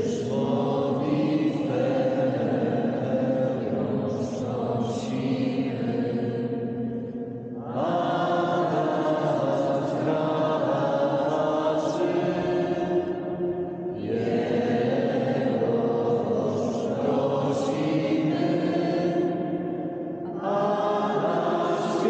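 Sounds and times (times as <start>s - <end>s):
choir singing in echoing church: 0.0s - 22.0s.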